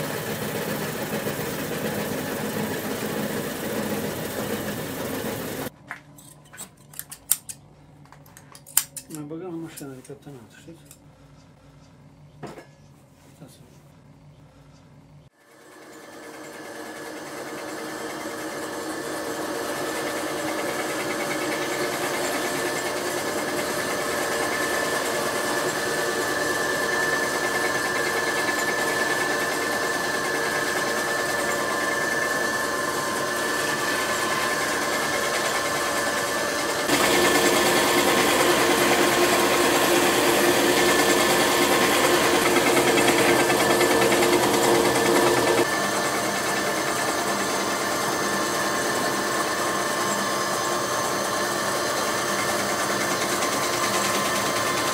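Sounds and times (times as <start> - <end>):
fleece finishing machine whining: 0.0 - 5.7, 15.3 - 54.9.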